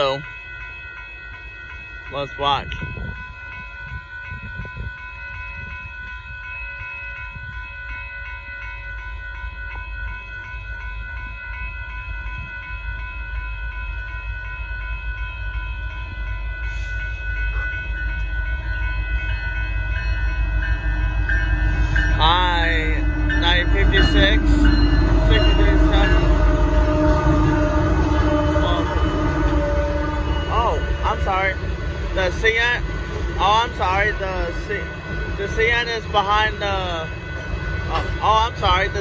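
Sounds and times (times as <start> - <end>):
freight train rumble: 0.0 - 39.0
railroad crossing bells: 0.0 - 39.0.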